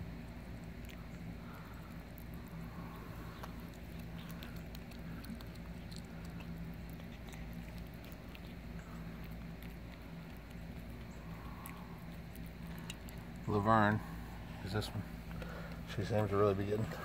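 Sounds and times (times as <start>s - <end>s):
cat chewing meat: 0.0s - 17.0s
steady low hum: 0.0s - 17.0s.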